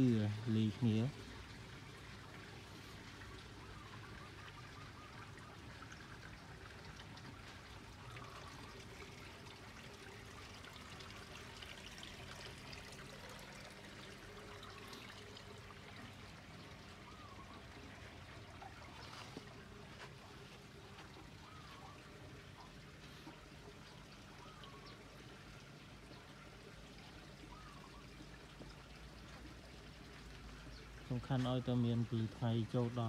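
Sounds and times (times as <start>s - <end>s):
water trickling through pipes: 0.0s - 33.0s.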